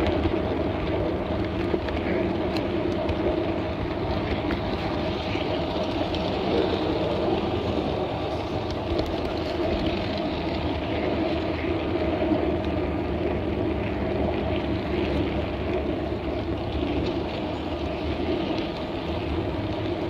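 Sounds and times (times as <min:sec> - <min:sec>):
model train motor and wheels droning: 0:00.0 - 0:20.0.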